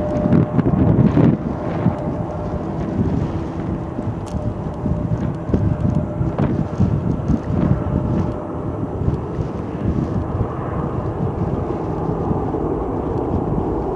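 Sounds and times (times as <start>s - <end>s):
jet engines rumbling: 0.0s - 13.9s.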